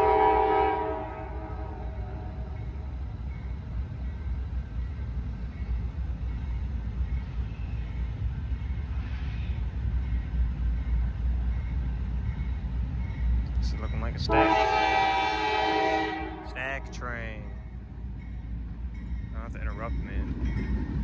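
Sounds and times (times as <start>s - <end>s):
freight train rumble: 0.0s - 21.0s.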